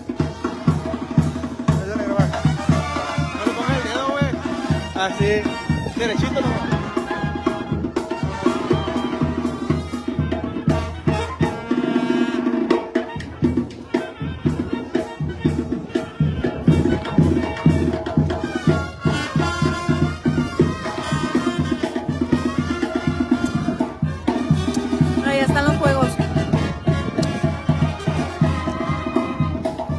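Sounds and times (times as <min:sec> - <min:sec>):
brass band playing: 0:00.0 - 0:29.9
steady drum beat: 0:00.0 - 0:29.9.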